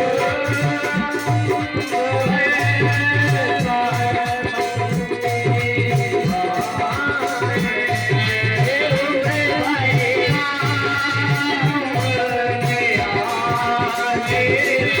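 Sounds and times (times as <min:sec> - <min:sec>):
folk devotional song with band: 0:00.0 - 0:15.0
hand drum beat: 0:00.0 - 0:15.0.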